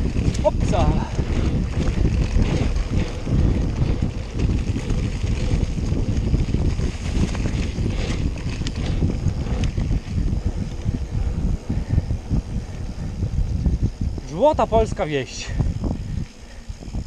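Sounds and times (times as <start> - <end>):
bike clicks: 0.0 - 14.4
mountain bike rumbling and rattling: 0.0 - 17.0
wind buffeting microphone: 0.0 - 17.0.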